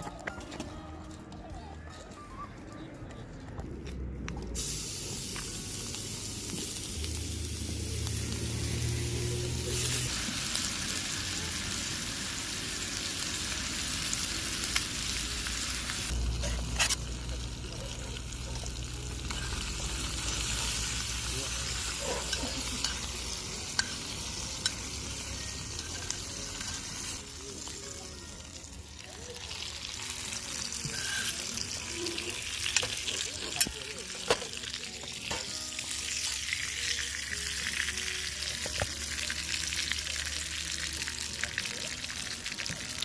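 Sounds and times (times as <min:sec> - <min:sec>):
meat sizzling in skillet: 0:04.6 - 0:43.0.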